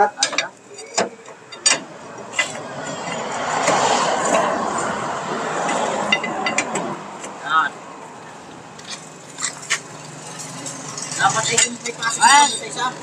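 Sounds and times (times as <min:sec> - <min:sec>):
vehicle passing on road: 0:01.2 - 0:13.0.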